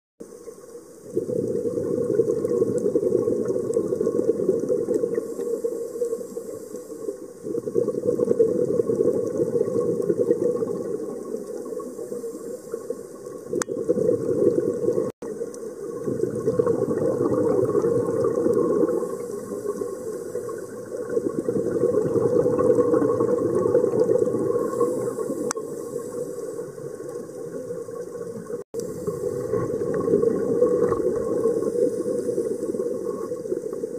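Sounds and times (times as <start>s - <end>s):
exhaled bubbles: 0.2s - 33.9s
underwater regulator rumble and hiss: 0.2s - 33.9s.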